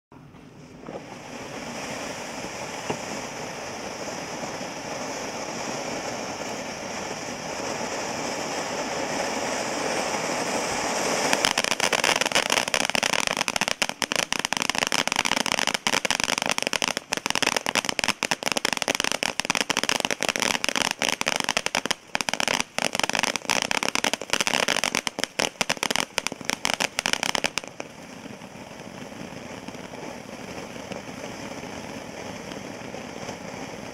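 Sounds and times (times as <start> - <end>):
fountain firework hissing: 0.4 - 33.9
rapid firework pops: 0.8 - 33.9.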